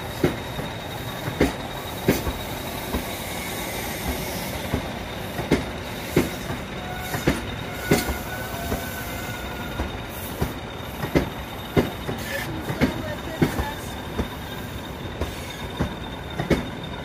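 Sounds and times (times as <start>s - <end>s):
railway coaches rumbling: 0.0s - 17.0s
train wheels knocking over rail joints: 0.0s - 17.0s
faint wheel squeal: 0.5s - 17.0s.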